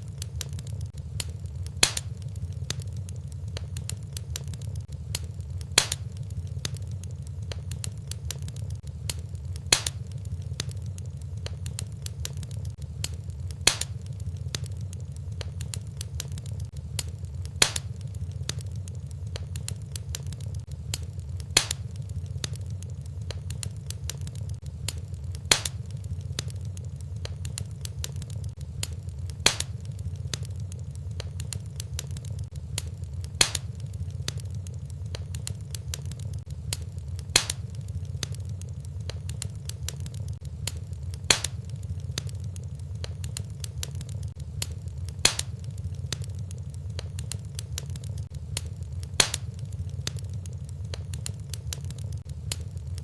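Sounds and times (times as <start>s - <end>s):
low fire rumble: 0.0s - 53.0s
wood fire crackling: 0.0s - 53.0s
sharp fire pop: 0.2s - 10.8s, 11.4s - 30.5s, 31.2s - 38.4s, 39.1s - 42.3s, 43.0s - 50.3s.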